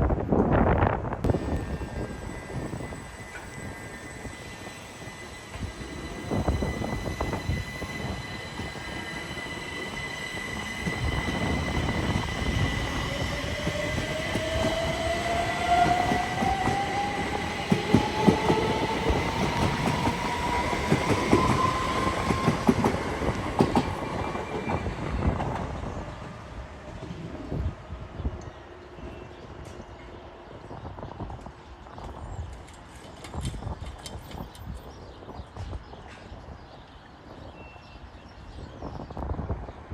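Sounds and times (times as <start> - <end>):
train rumble: 0.0 - 36.4
rising train whine: 0.0 - 39.9.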